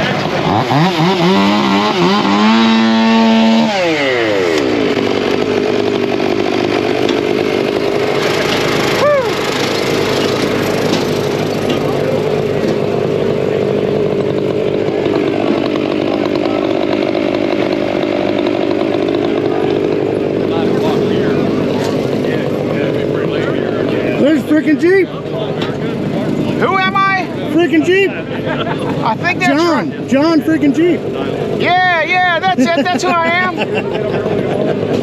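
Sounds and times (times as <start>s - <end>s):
chainsaw revving: 0.0s - 35.0s
small engines droning: 0.0s - 35.0s.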